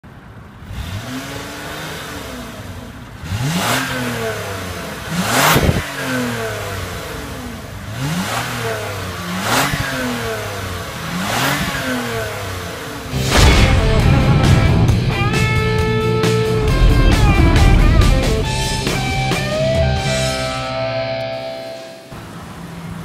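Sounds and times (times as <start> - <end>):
car engine idling and revving: 0.0 - 21.0, 22.0 - 23.0.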